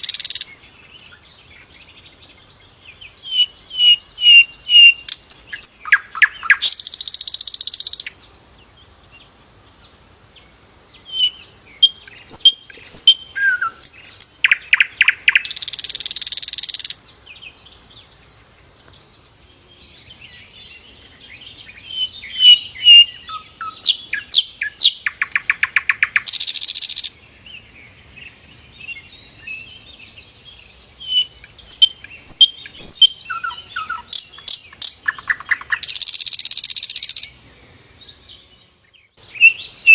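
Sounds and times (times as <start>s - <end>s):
flycatcher singing: 0.0s - 39.9s.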